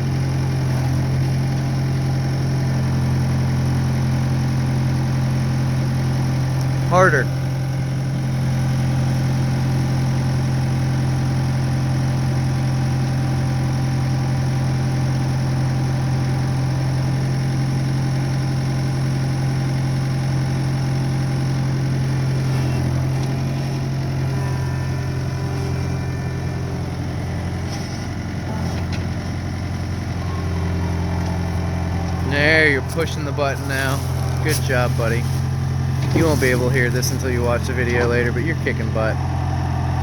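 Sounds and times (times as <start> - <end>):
skid steer engine running: 0.0 - 40.0.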